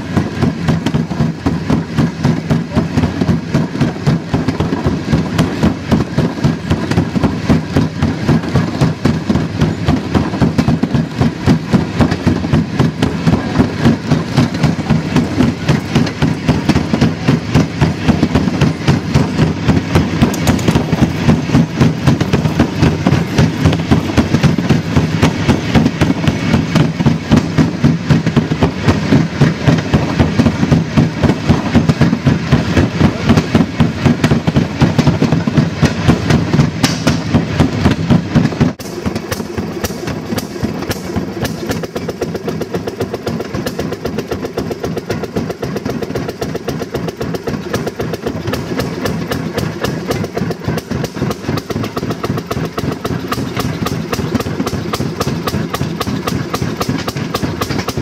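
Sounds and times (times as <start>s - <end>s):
small engine popping: 0.0s - 58.0s.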